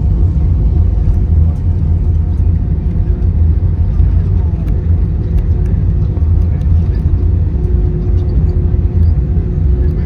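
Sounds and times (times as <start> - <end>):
jet engines idling: 0.0 - 10.0
wheels rolling on taxiway: 0.0 - 10.0.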